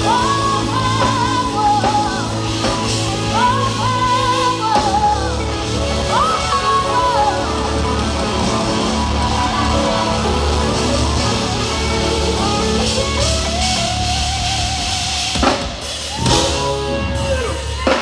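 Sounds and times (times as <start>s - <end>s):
deep bass: 0.0s - 15.1s, 16.1s - 18.0s
guitar playing: 0.0s - 15.6s, 16.2s - 18.0s.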